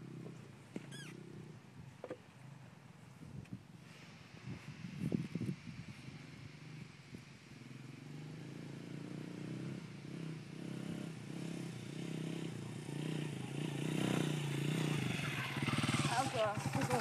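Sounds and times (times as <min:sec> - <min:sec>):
dirt bike engine approaching: 0:00.0 - 0:17.0.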